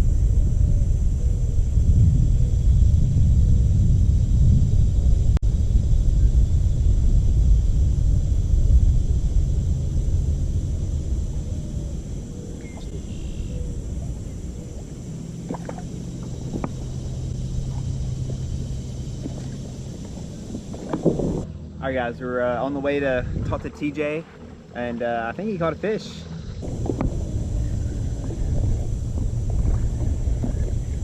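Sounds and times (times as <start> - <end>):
boat motor rumbling: 0.0 - 31.0.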